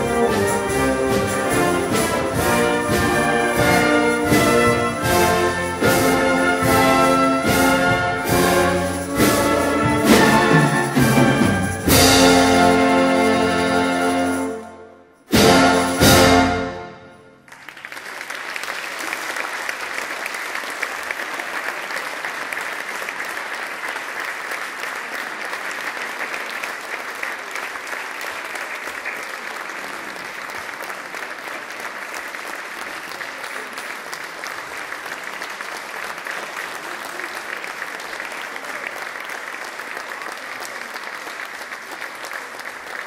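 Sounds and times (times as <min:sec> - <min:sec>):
audience applause: 0:00.0 - 0:14.4, 0:17.4 - 0:43.0.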